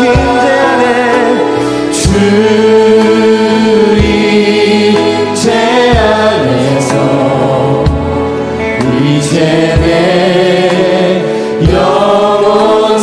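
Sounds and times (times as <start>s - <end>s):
band playing slow song: 0.0s - 13.0s
singers singing together: 0.0s - 13.0s.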